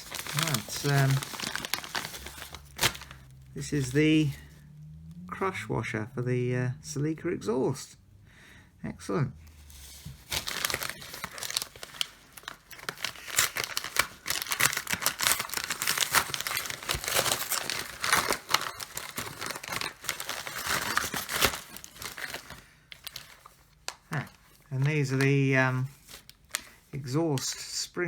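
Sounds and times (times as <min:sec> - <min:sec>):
packaging crinkling and tearing: 0:00.0 - 0:04.6, 0:09.6 - 0:27.7.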